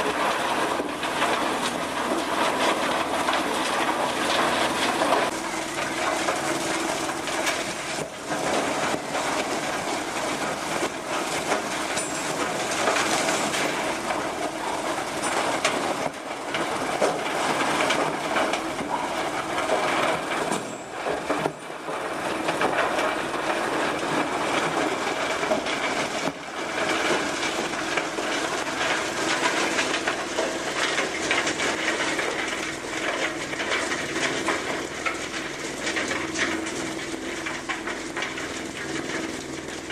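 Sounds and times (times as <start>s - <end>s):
wood crusher grinding and cracking: 0.0s - 39.9s.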